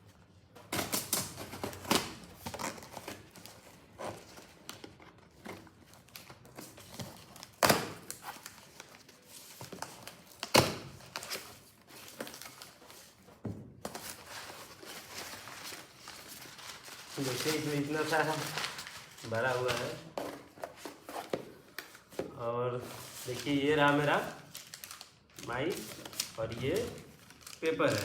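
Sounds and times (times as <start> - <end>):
packaging crinkling and tearing: 0.8 - 13.2, 13.9 - 20.2, 23.0 - 28.0.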